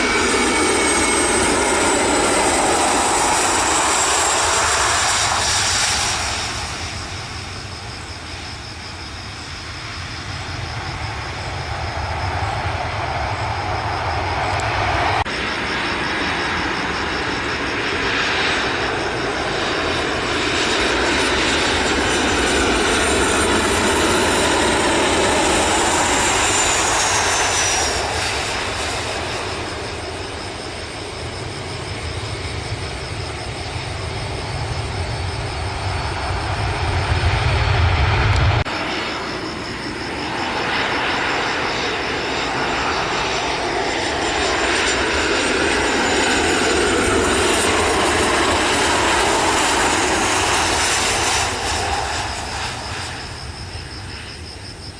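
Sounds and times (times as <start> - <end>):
jet engines of landing airliners: 0.0 - 54.9.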